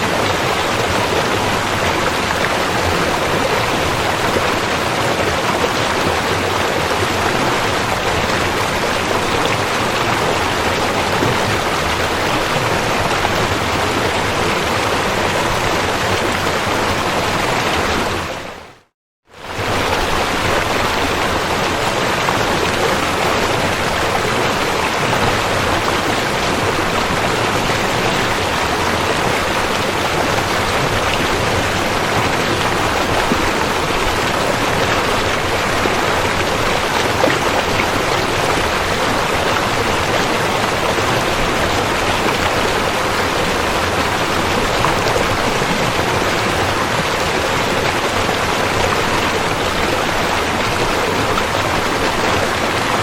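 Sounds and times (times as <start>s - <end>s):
river water flowing over rocks: 0.0s - 53.0s.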